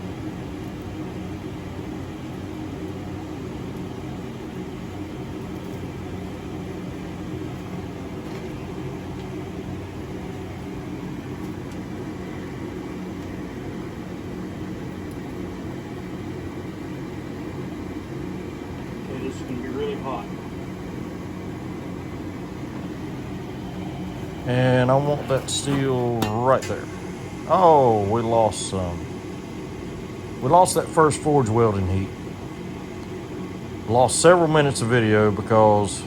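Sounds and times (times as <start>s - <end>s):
forge blower rushing: 0.0s - 36.0s
low hum: 5.5s - 36.0s.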